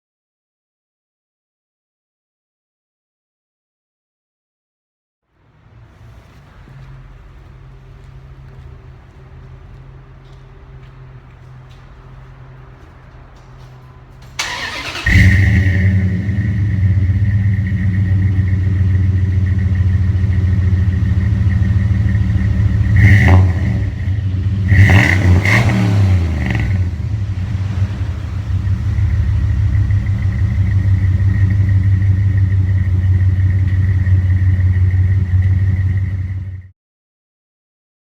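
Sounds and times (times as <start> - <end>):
car engine idling and revving: 5.4 - 36.7.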